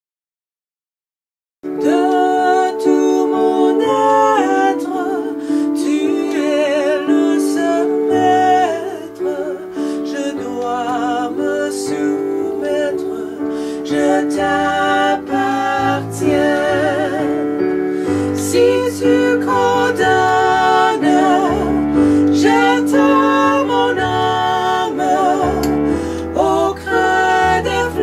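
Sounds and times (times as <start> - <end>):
slow music with wavering melody: 1.7 - 28.0.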